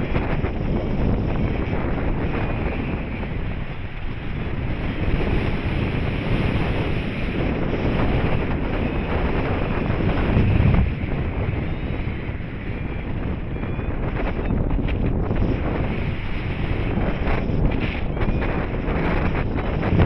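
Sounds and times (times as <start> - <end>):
wind roar buffeting microphone: 0.0 - 20.0.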